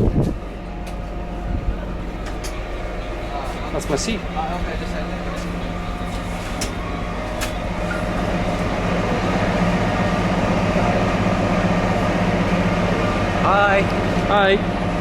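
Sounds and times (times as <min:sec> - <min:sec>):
train hum and rumble: 0:00.0 - 0:15.0.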